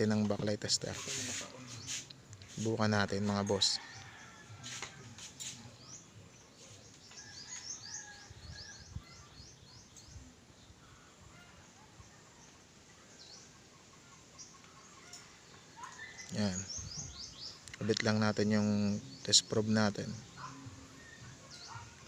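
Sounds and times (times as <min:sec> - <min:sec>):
birds chirping: 0:00.0 - 0:22.0
faint background noise: 0:00.0 - 0:22.0.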